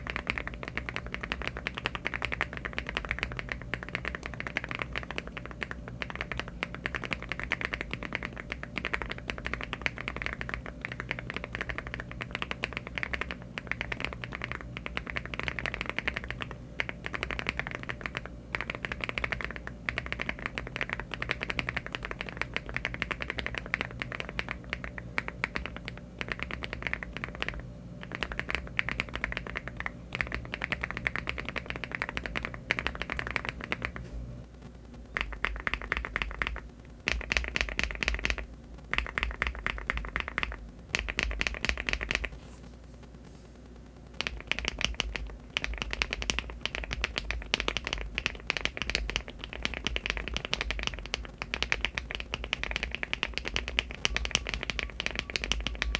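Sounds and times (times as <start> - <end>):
rapid typing on mechanical keyboard: 0.0 - 34.0, 35.2 - 42.4, 44.2 - 55.9.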